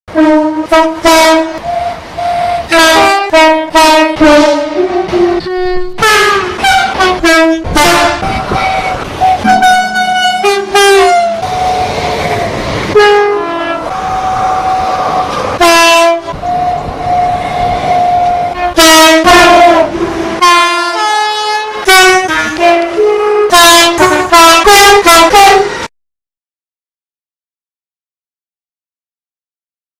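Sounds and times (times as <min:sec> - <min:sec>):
train horn blasts: 0:00.1 - 0:25.9.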